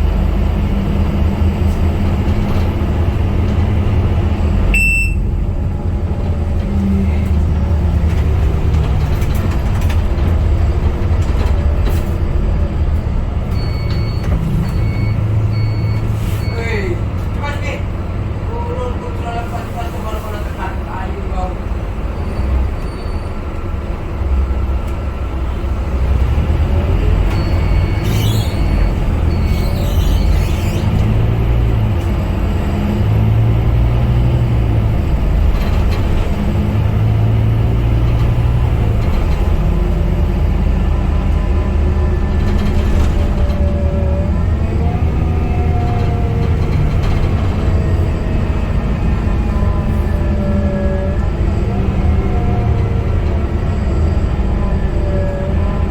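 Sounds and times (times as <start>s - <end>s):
bus engine rumbling: 0.0s - 55.9s.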